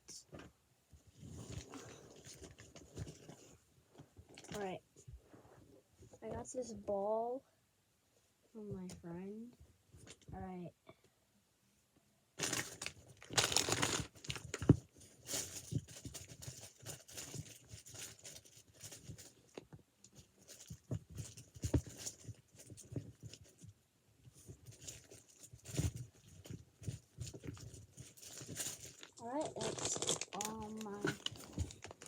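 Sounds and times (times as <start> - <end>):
hands rustling toys: 0.0 - 6.9, 12.4 - 32.0.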